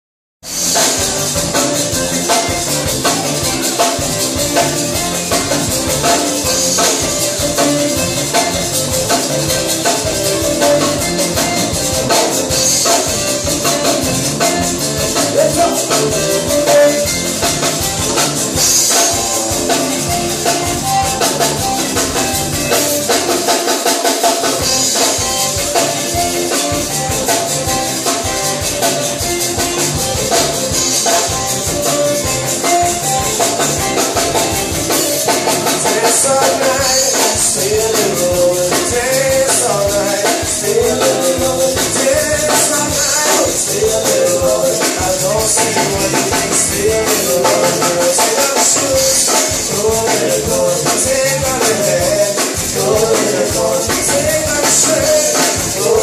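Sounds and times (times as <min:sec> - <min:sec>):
accordion melody: 0:00.4 - 0:56.0
bass: 0:00.4 - 0:56.0
drums beating: 0:00.4 - 0:56.0
electric guitar: 0:00.4 - 0:56.0.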